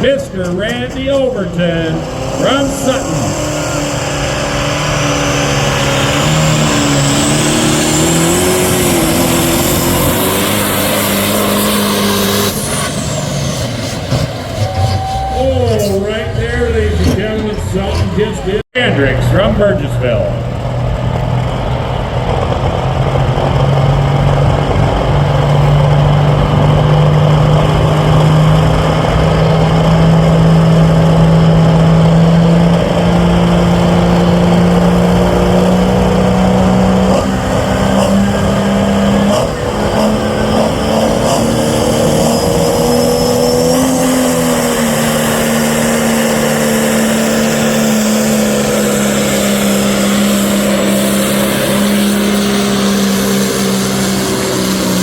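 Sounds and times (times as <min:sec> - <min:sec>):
diesel engine at full throttle: 0:00.0 - 0:55.0.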